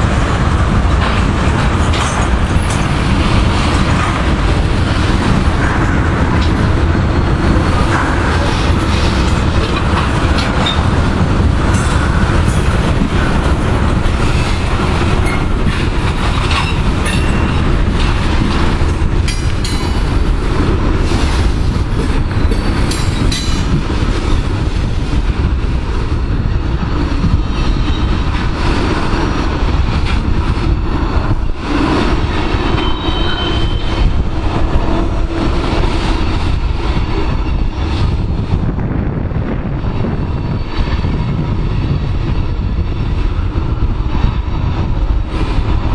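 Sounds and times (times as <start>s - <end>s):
steel wheels clicking over rail joints: 0.0s - 38.5s
freight train rolling past: 0.0s - 45.9s.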